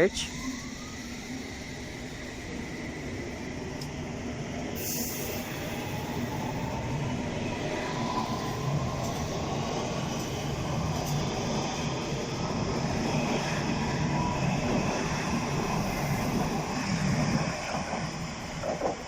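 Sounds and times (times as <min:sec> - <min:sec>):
steady train rumble: 0:00.0 - 0:19.0.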